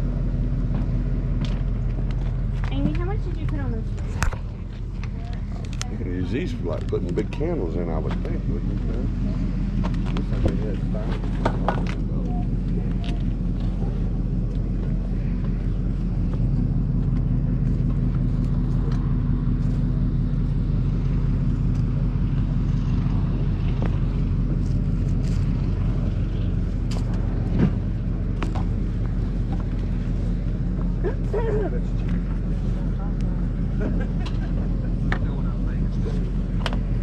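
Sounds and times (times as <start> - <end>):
car engine hum: 0.0 - 37.0
road noise: 0.0 - 37.0.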